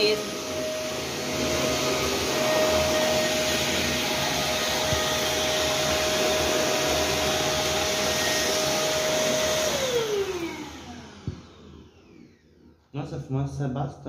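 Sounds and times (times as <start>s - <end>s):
vacuum cleaner running: 0.0s - 13.8s.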